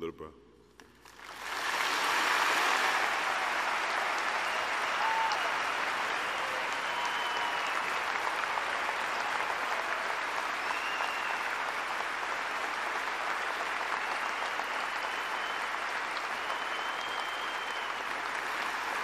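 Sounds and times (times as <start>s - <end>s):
crowd applauding: 1.0s - 19.0s.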